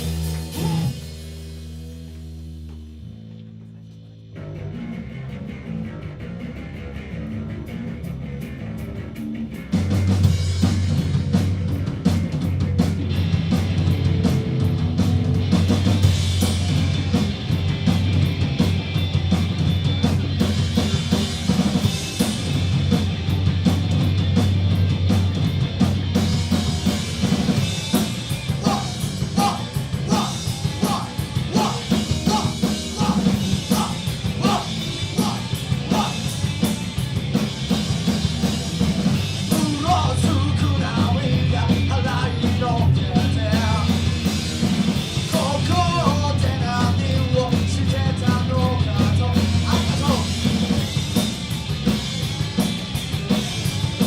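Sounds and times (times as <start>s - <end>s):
repeated picked guitar notes: 0.0s - 46.3s
live rock band playing: 0.0s - 54.0s.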